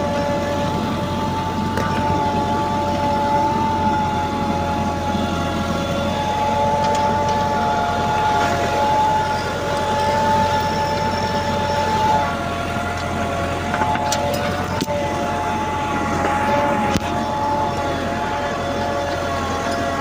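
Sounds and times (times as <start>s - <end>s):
low hum: 0.0s - 20.0s
tractor engine whining: 0.0s - 20.0s.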